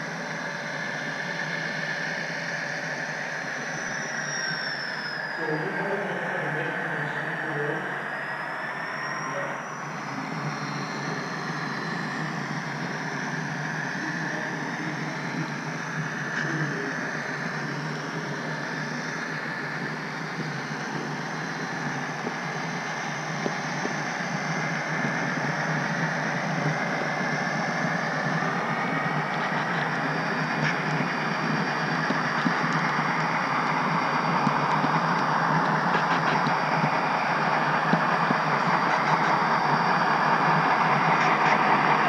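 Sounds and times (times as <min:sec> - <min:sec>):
model train motor whine: 0:00.0 - 0:42.0
wheels on track: 0:00.0 - 0:42.0.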